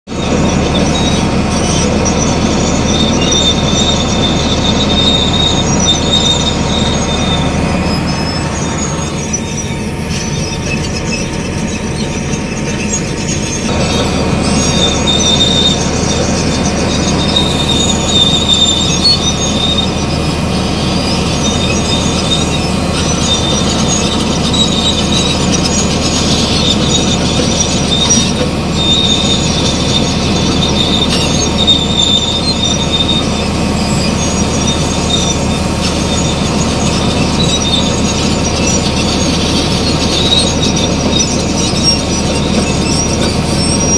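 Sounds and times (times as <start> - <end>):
heavy diesel machinery running: 0.0 - 43.9
high metallic squeal: 0.1 - 43.9.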